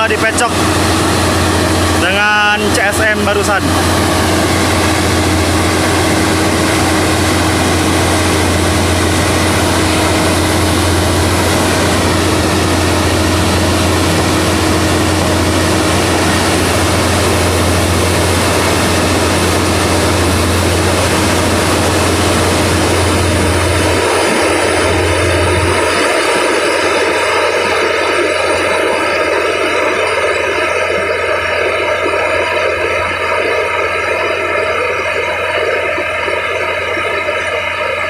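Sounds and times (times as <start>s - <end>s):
heavy diesel engine running: 0.0s - 38.0s
steady machine whine: 0.0s - 38.0s.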